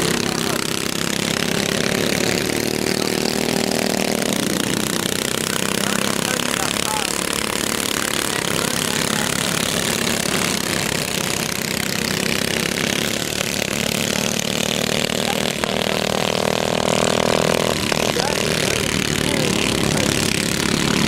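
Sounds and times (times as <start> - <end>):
go-kart engines droning: 0.0 - 21.0.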